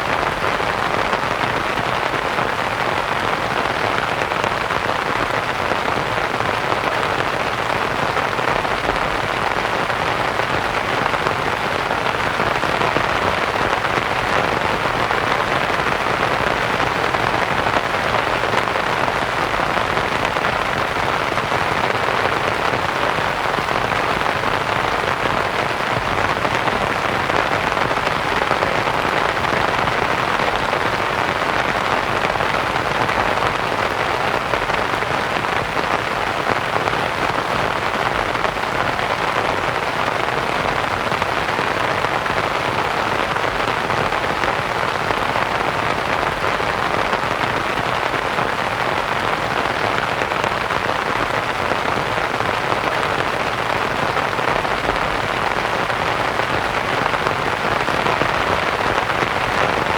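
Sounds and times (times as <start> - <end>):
rain pattering on a tent: 0.0 - 59.9
white noise hiss: 0.0 - 59.9.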